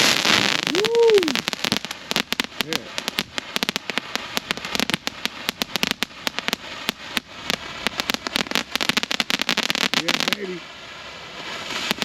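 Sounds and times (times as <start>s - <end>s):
firework crackling pops: 0.0s - 12.0s.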